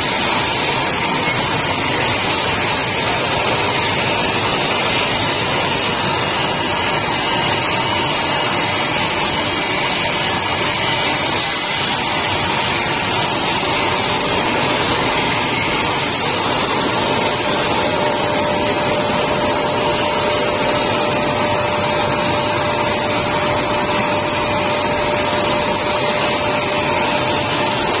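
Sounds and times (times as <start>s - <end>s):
polishing machine din with whine: 0.0s - 28.0s.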